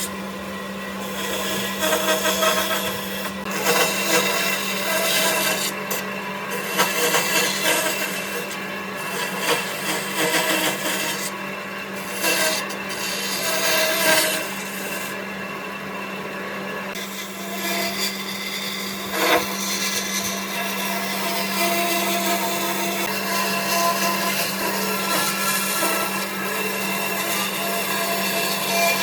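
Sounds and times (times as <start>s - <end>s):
tool scraping wood: 0.0s - 0.2s, 0.9s - 15.2s, 16.9s - 29.0s.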